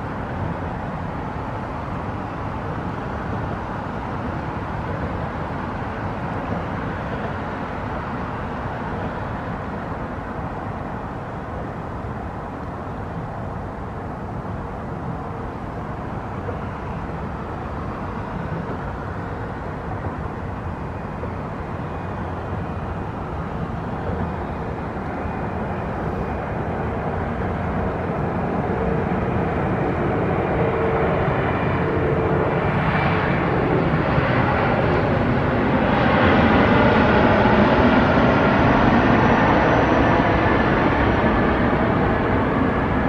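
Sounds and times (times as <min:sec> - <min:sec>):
low rumbling background noise: 0:00.0 - 0:43.0.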